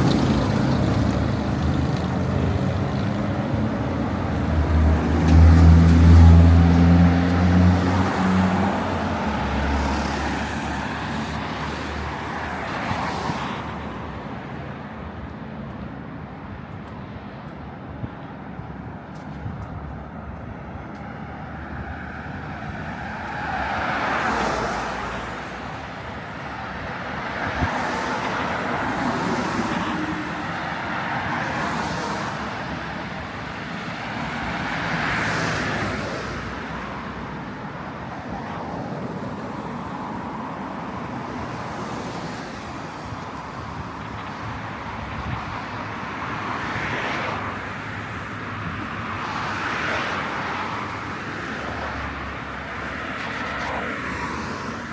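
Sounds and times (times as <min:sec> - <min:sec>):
cars passing: 0:00.0 - 0:54.9
street background hum: 0:00.0 - 0:54.9.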